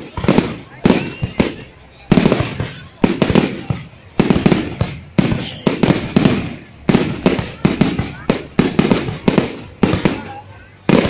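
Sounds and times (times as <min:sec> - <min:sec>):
aerial fireworks bangs: 0:00.0 - 0:11.0.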